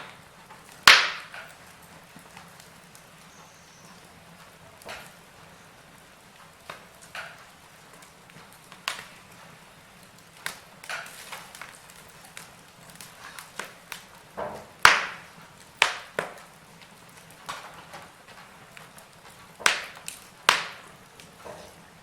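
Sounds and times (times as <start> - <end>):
faint steady hiss: 0.0 - 22.0
wood fire crackling: 0.0 - 22.0.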